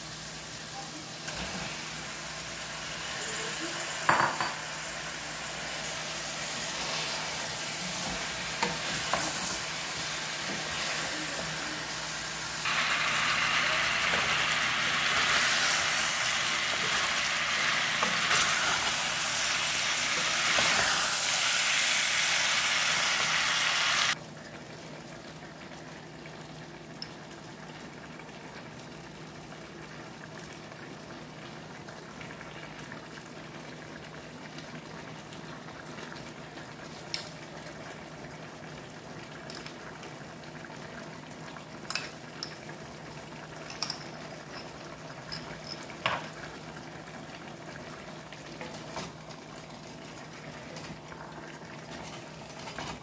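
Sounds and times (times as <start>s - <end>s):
vegetables sizzling in a pot: 0.0s - 53.0s.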